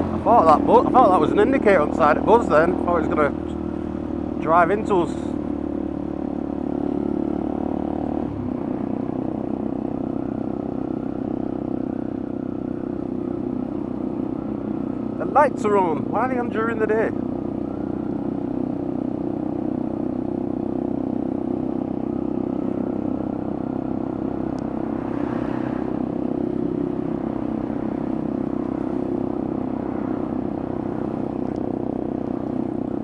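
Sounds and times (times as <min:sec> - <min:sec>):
motorcycle engine cruising: 0:00.0 - 0:33.0
wind and road noise: 0:00.0 - 0:33.0.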